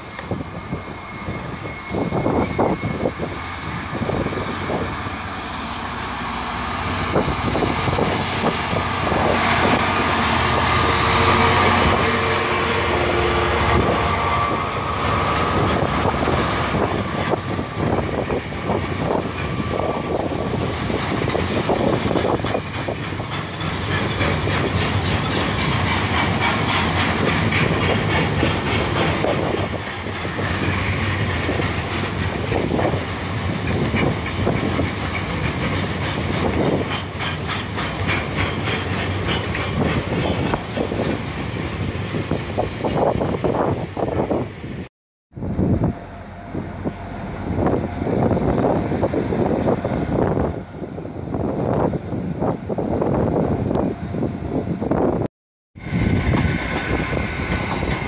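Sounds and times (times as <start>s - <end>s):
diesel locomotive passing: 0.0s - 58.0s
train wagons rumbling and clacking: 0.0s - 58.0s.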